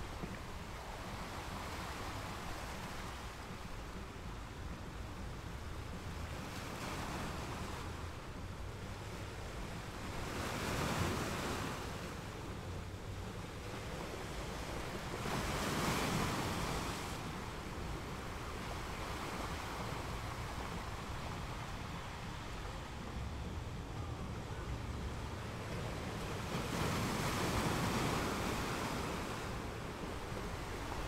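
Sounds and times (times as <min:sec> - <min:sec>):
waves breaking on beach: 0:00.0 - 0:31.0.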